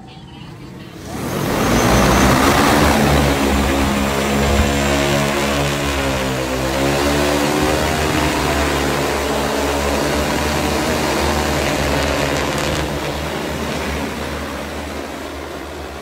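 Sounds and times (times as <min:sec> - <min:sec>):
drone propellers humming overhead: 0:00.0 - 0:16.0.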